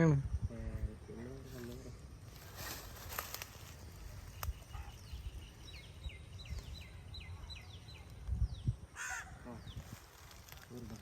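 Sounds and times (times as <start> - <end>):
bird chirping: 0.2 - 10.4.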